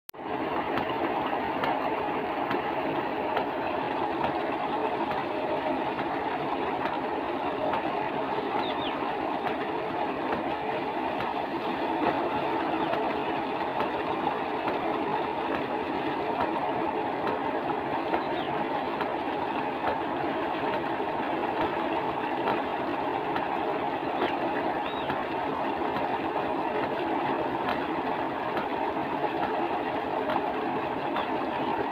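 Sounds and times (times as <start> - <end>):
splashing water: 0.2 - 31.9
water gushing from pipe into tank: 0.2 - 31.9.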